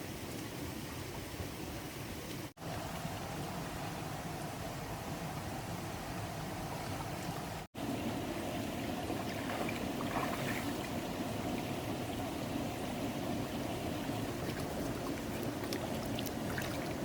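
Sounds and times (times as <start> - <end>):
flowing water rushing: 2.6 - 17.0.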